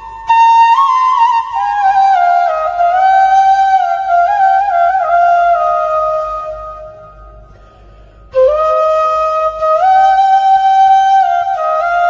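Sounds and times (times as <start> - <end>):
slow wind instrument melody: 0.0 - 12.0.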